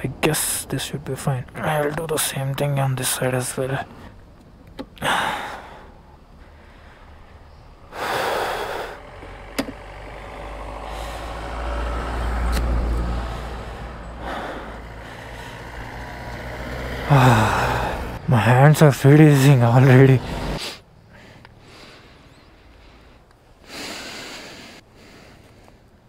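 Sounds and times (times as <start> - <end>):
vehicle passing rumble: 0.0 - 26.0.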